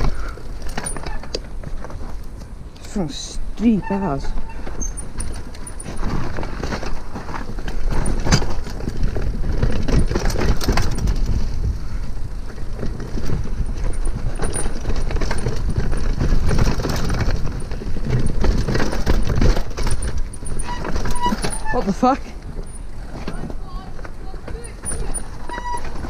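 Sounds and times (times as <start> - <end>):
bike rattling over bumps: 0.0 - 26.0
bike tyres on dirt: 0.0 - 26.0.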